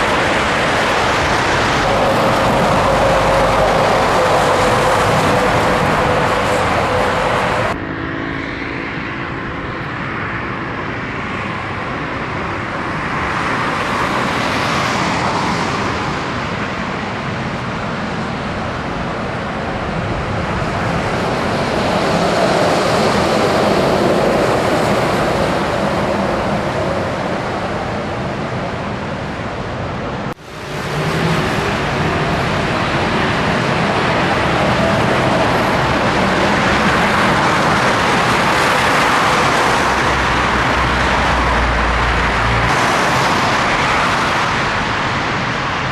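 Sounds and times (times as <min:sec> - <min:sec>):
moving truck road noise: 0:00.0 - 0:45.9.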